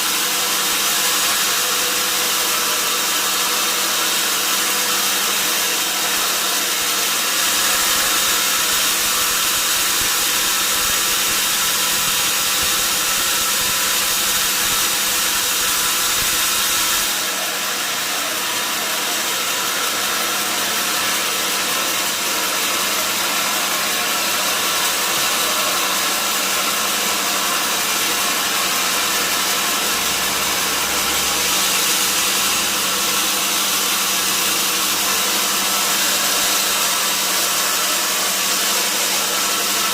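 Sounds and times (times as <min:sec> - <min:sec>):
sawmill machine running: 0:00.0 - 0:39.9.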